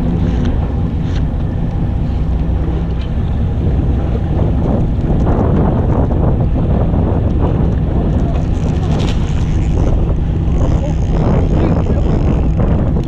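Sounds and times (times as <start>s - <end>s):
boat engine humming: 0.0s - 13.0s
water washing against hull: 0.0s - 13.0s
wind buffeting microphone: 0.0s - 13.0s.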